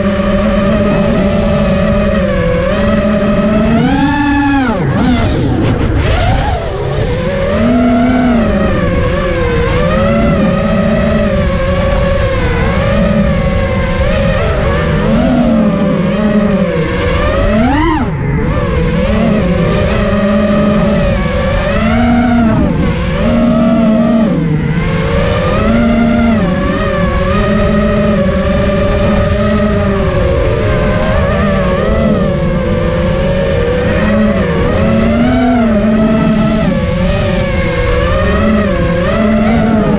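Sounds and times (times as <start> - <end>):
drone motors whining: 0.0 - 39.9
rushing wind noise: 0.0 - 39.9.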